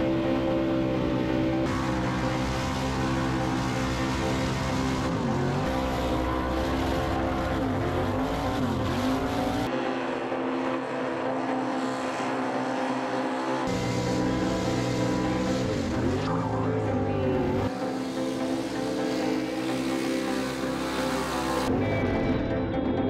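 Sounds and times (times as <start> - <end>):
engines racing at high revs: 0.0 - 22.6.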